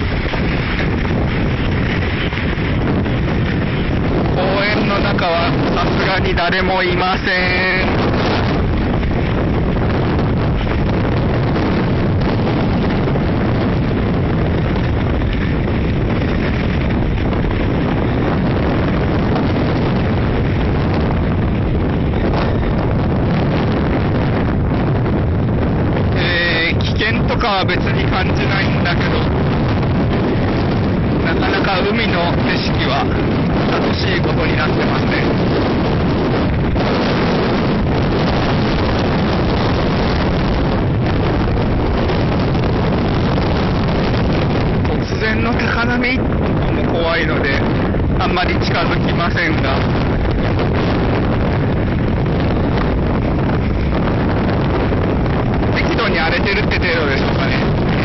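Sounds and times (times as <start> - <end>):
strong wind on microphone: 0.0 - 58.0.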